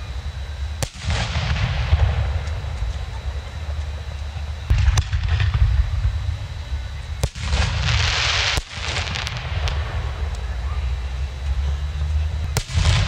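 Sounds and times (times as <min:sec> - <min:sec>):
crackling hiss: 0:00.0 - 0:13.0
fireworks bursting with sharp bangs: 0:00.0 - 0:13.0
steady low rumble: 0:00.0 - 0:13.0.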